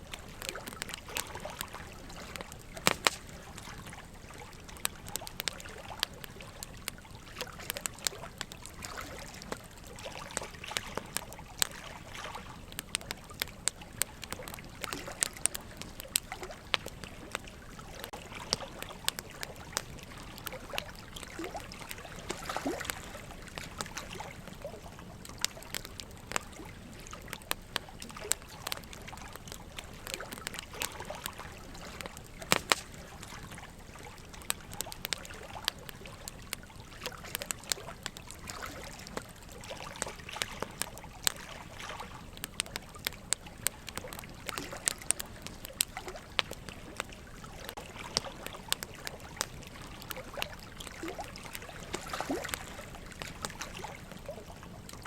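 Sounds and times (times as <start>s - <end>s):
trickle of running water: 0.0s - 55.0s
wood fire crackling: 0.0s - 55.0s.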